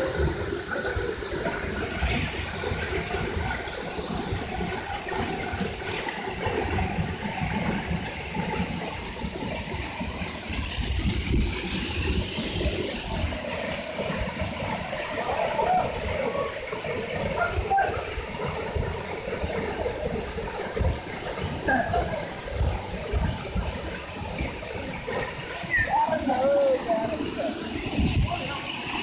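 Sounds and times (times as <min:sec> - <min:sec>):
waterfall pouring: 0:00.0 - 0:29.0.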